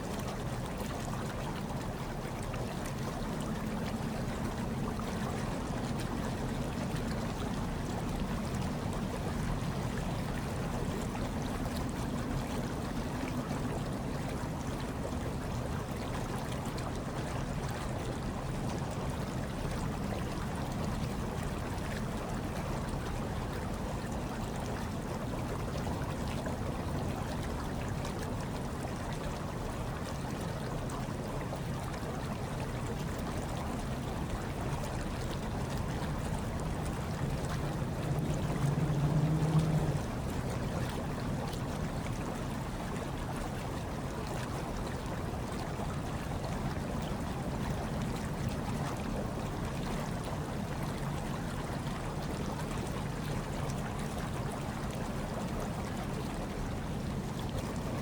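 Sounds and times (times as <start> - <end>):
hot tub water bubbling: 0.0 - 58.0.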